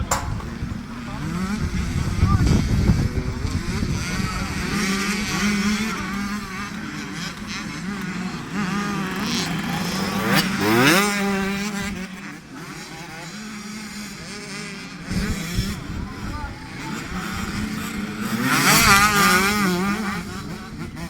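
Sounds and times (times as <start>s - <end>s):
motocross bike engines revving: 0.0s - 21.0s
motorbike accelerating hard: 0.0s - 21.0s.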